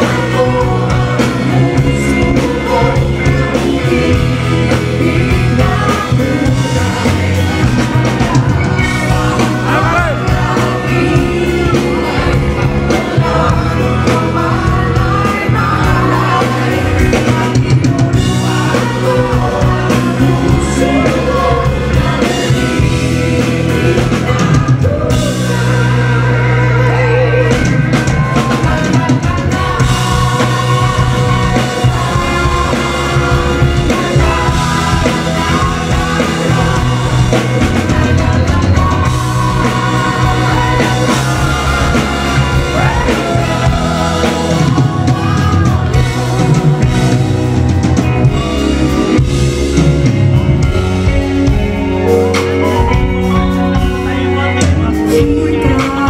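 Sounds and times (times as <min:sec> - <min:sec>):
man singing into microphone: 0:00.0 - 0:46.8, 0:53.7 - 0:56.0
live band playing: 0:00.0 - 0:56.0.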